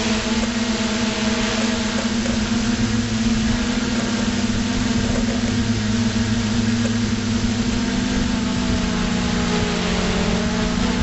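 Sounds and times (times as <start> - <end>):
drone motors humming: 0.0 - 11.0.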